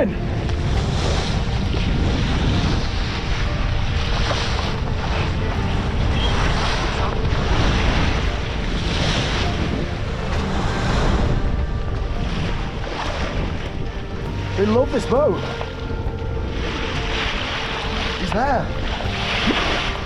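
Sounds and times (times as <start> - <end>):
water rushing along boat hull: 0.0 - 20.0
wind buffeting microphone: 0.0 - 20.0.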